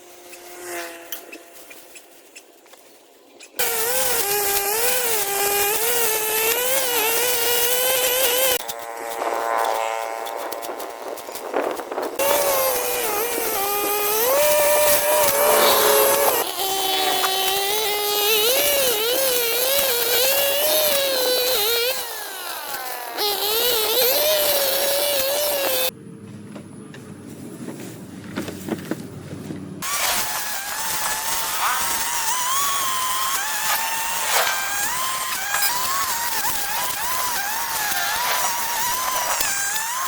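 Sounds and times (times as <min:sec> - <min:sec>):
garden power tools revving: 0:03.6 - 0:25.9, 0:29.8 - 0:40.0.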